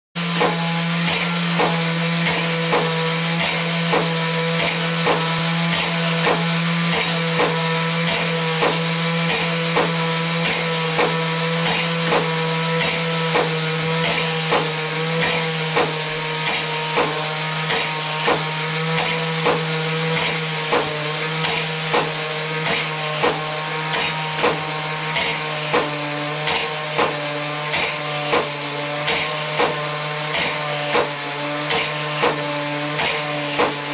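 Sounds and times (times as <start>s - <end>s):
drum and cymbal strikes: 0.2s - 33.9s
mechanism humming: 0.2s - 33.9s.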